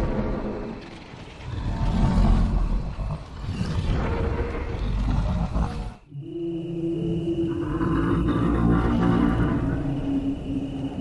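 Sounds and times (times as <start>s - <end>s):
dinosaur roar: 1.4s - 10.5s.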